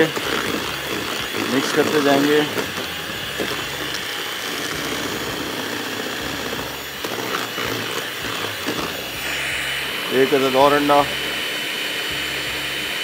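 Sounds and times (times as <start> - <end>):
electric mixer running: 0.0 - 13.0.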